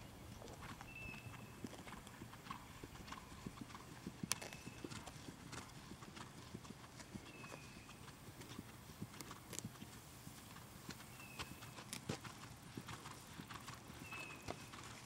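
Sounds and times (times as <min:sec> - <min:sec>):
horse hoofbeats on grass and dirt: 0:00.0 - 0:15.0.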